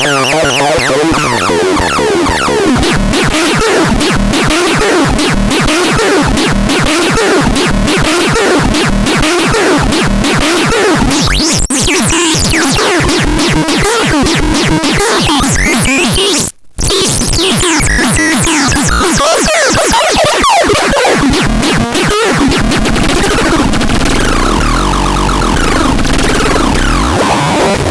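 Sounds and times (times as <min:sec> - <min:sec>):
electronic synthesizer sounds: 0:00.0 - 0:27.9
rapid pulsing beat: 0:00.0 - 0:27.9.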